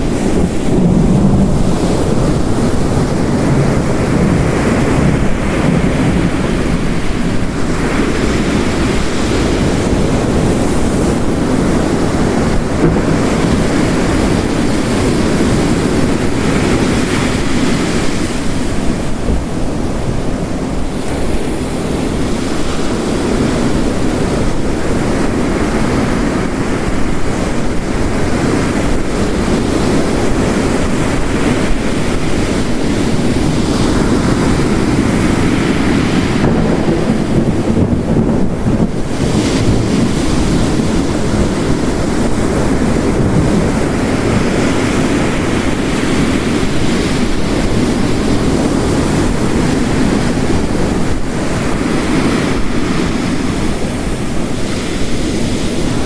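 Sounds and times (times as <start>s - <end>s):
heavy rain: 0.0s - 56.0s
ocean waves crashing: 0.0s - 56.0s.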